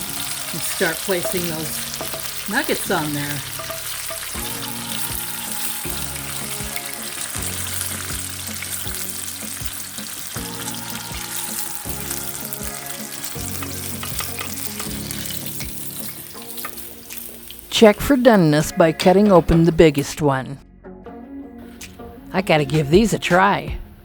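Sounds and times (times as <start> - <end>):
chicken nuggets sizzling in oil: 0.0 - 19.5
soft background music: 0.0 - 24.0.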